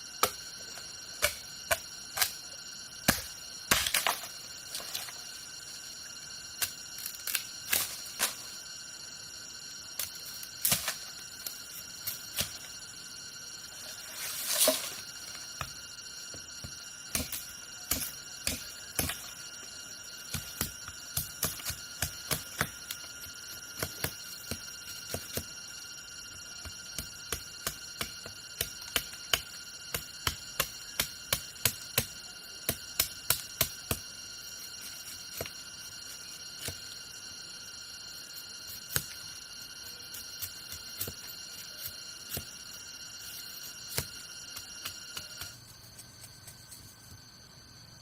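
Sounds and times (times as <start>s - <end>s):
high-pitched ringing drone: 0.0s - 48.0s.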